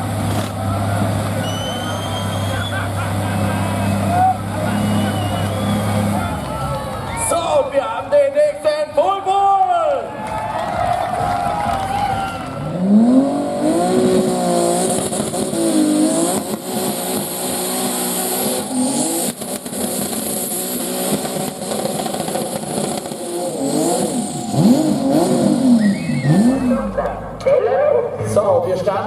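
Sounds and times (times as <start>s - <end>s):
diesel engine revving: 0.0s - 7.4s, 12.4s - 29.0s.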